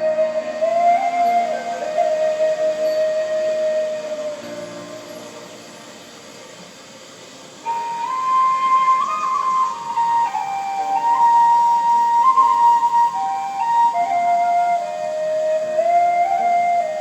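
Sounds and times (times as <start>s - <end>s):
bamboo flute playing slow melody: 0.0s - 17.0s.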